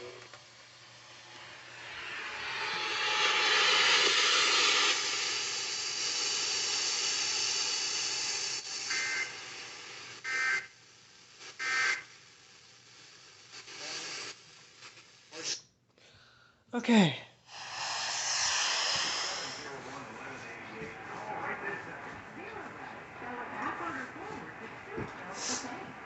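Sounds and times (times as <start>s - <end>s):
radio static hiss: 1.7s - 15.6s, 17.5s - 26.0s.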